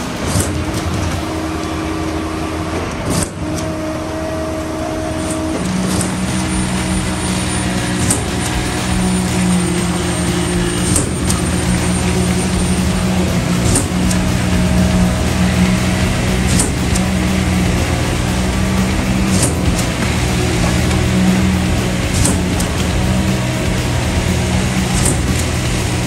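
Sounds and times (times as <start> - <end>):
construction site noise: 0.0 - 26.0
diesel engine running: 0.0 - 26.0
sharp knocks: 5.1 - 26.0.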